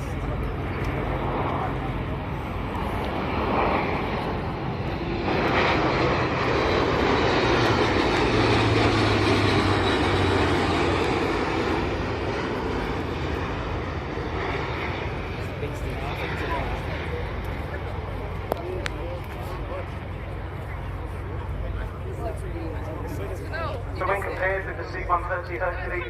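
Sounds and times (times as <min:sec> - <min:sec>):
propeller aircraft flying past: 0:00.0 - 0:26.0.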